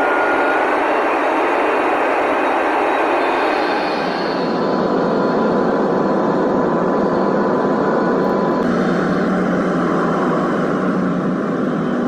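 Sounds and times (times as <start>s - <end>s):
jet engines and airflow rushing: 0.0s - 12.0s
plane rumbling on the ground: 0.0s - 12.0s.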